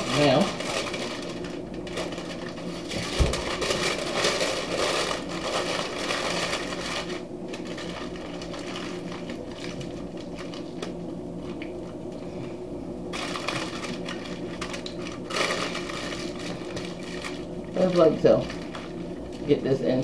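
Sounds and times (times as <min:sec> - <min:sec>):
aluminum foil crinkling: 0:00.0 - 0:11.7, 0:13.1 - 0:20.0.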